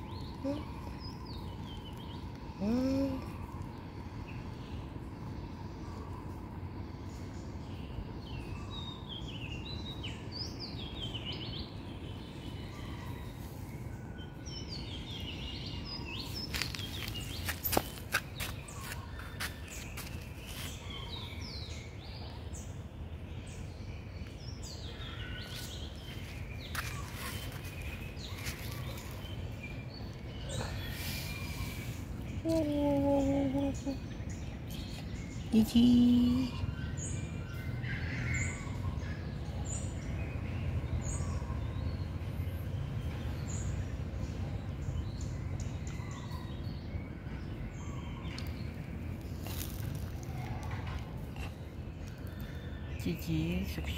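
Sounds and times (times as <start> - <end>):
low outdoor background noise: 0.0 - 53.9
small birds chirping: 0.0 - 53.9.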